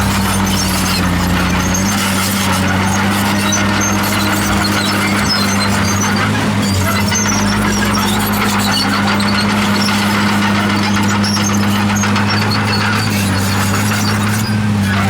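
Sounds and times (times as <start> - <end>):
bulldozer engine running: 0.0 - 15.0
steel tracks squeaking: 0.0 - 15.0.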